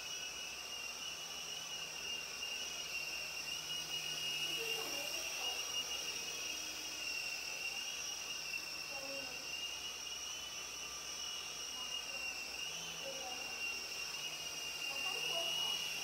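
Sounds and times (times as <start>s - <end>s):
small helicopter motor whine: 0.0s - 16.0s.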